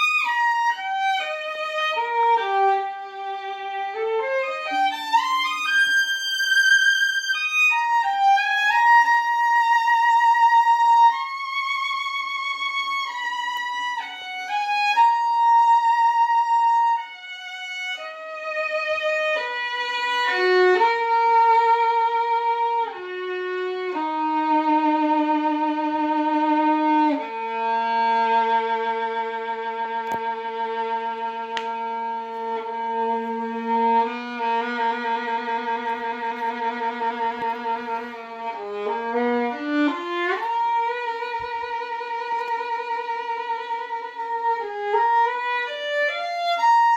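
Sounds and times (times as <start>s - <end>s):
violin playing slow melody: 0.0s - 46.9s.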